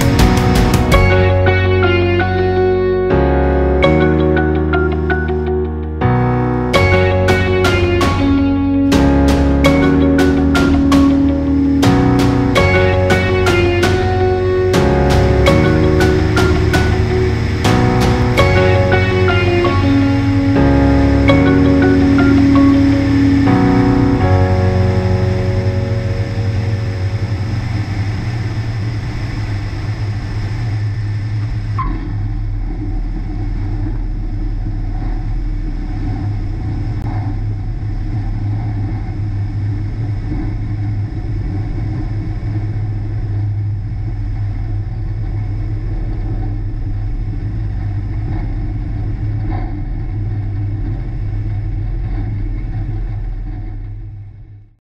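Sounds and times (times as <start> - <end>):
aircraft engine droning: 0.0 - 54.6.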